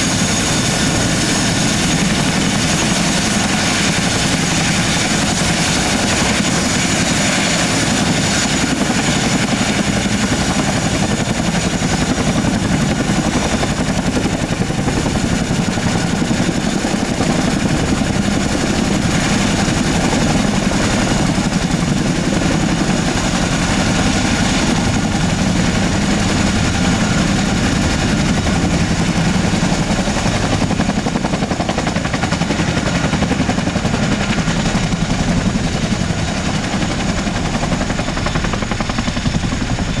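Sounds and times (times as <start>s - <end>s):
helicopter rotor chop: 0.0s - 40.0s.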